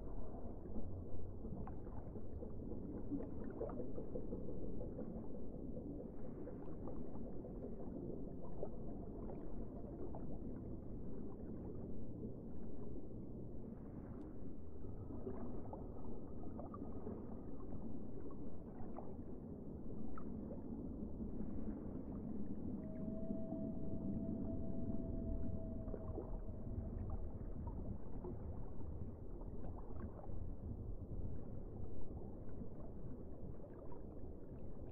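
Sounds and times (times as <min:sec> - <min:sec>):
underwater rumble of moving water: 0:00.0 - 0:34.9.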